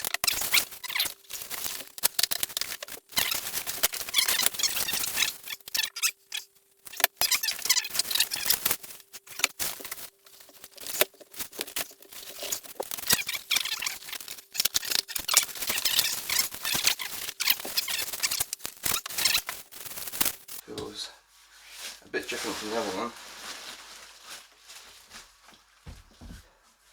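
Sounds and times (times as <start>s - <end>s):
packaging rustling and tearing: 0.0s - 6.0s, 6.9s - 20.7s, 21.8s - 25.7s.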